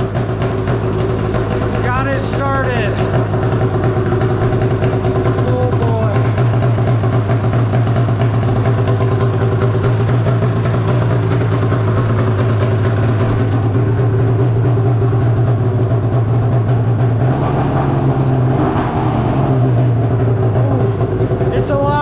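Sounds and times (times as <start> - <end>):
snowmobile engine running: 0.0 - 22.0.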